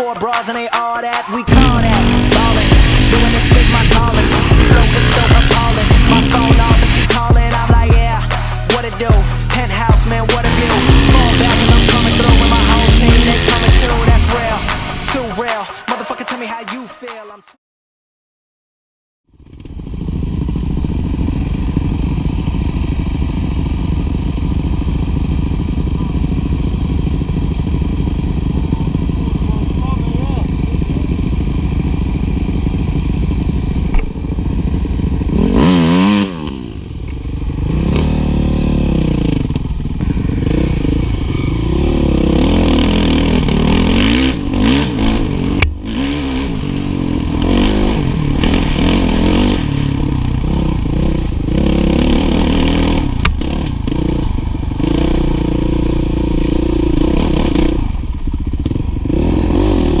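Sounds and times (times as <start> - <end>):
motorcycle engines revving: 1.4 - 15.6, 19.4 - 60.0.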